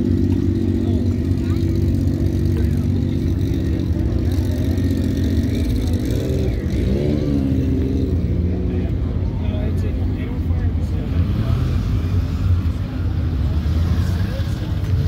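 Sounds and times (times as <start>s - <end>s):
vehicle engine idling and revving: 0.0s - 15.0s.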